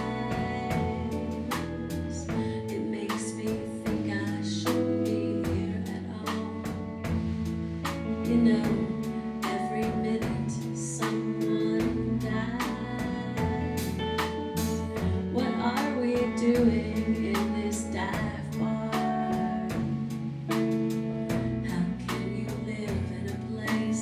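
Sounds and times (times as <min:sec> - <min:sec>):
woman singing into microphone: 0:00.0 - 0:07.2, 0:08.0 - 0:20.7, 0:21.3 - 0:24.0
steady drum beat: 0:00.0 - 0:23.7
guitar: 0:00.0 - 0:24.0.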